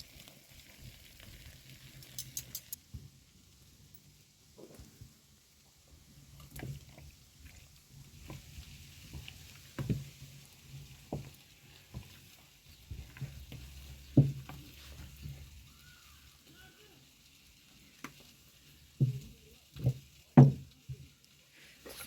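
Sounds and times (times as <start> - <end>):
faint sizzle: 0.0 - 22.0.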